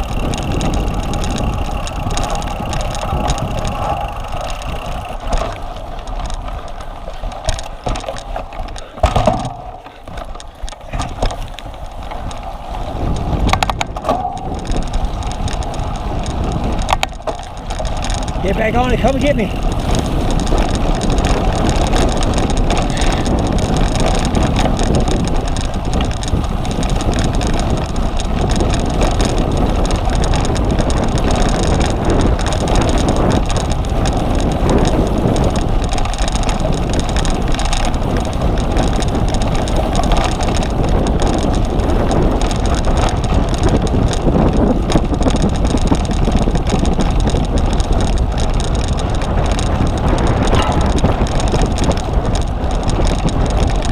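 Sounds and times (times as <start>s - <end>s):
bike tyres and drivetrain rumble: 0.0s - 53.9s
wind buffeting microphone: 0.0s - 53.9s.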